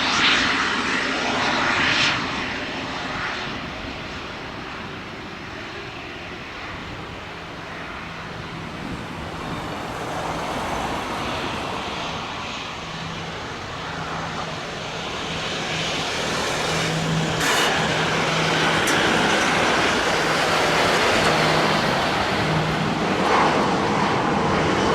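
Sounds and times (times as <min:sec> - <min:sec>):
jet engine roar at takeoff: 0:00.0 - 0:24.9.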